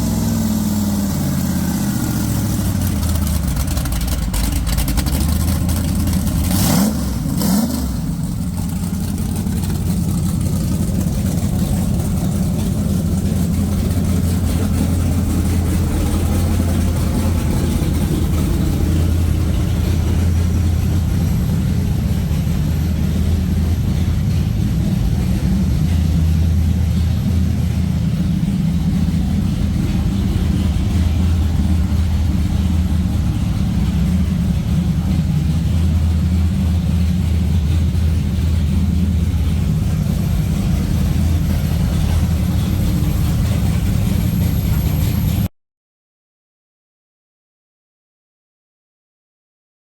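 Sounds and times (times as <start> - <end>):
big engine revving and running: 0.0 - 45.5.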